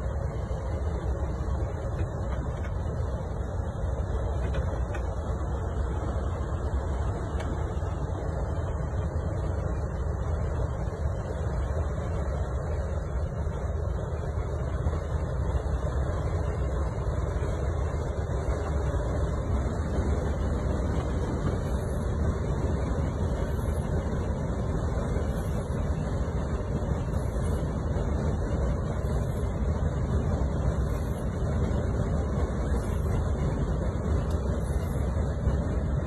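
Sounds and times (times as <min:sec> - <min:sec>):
truck driving on road: 0:00.0 - 0:36.0.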